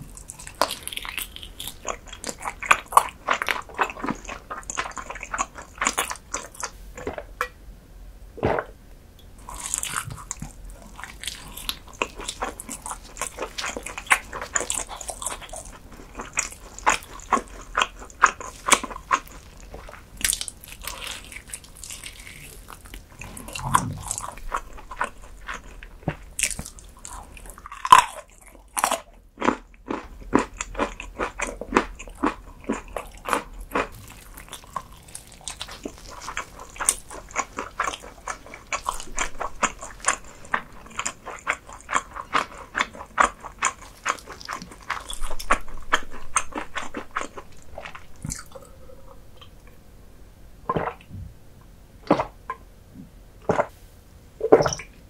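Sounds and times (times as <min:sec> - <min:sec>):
person chewing crunchy food: 0:00.0 - 0:07.4, 0:09.4 - 0:49.8.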